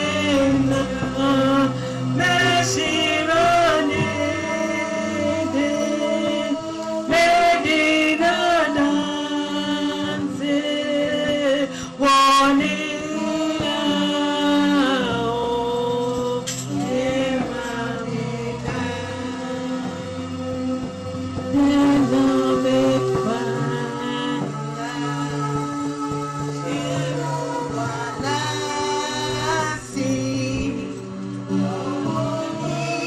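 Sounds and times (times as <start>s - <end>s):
church choir singing gospel: 0.0s - 33.0s.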